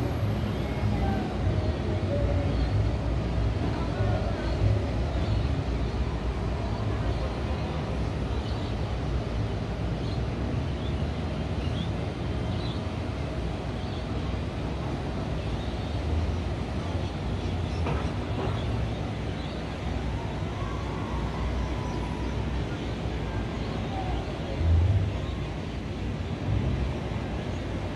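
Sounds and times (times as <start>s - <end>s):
traffic hum: 0.0s - 27.9s.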